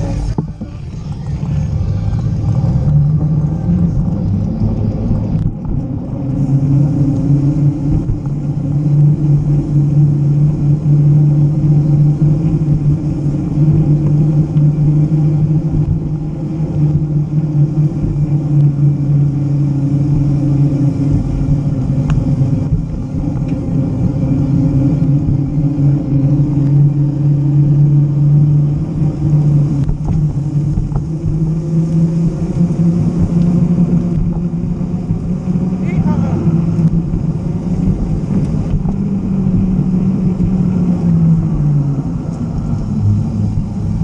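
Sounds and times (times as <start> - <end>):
bicycle tyres rolling on pavement: 0.0 - 44.0
wind on camera: 0.0 - 44.0.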